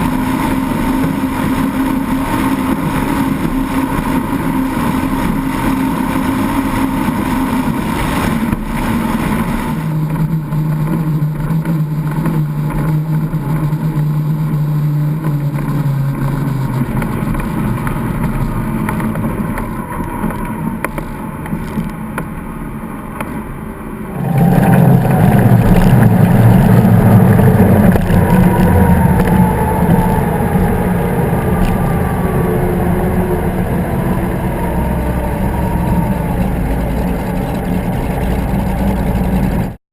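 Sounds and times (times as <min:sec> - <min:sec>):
powerboat engines running: 0:00.0 - 0:39.8.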